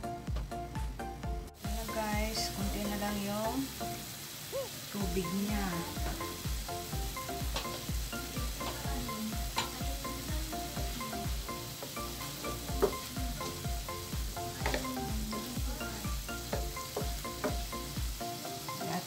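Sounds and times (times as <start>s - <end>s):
background music with beat: 0.0s - 4.0s, 5.0s - 19.0s
meat sizzling in a wok: 1.6s - 19.0s.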